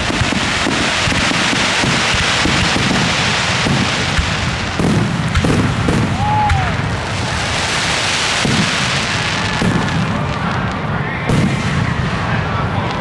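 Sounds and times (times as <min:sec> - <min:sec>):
fireworks booms: 0:00.0 - 0:13.0
fireworks crackling: 0:00.0 - 0:13.0.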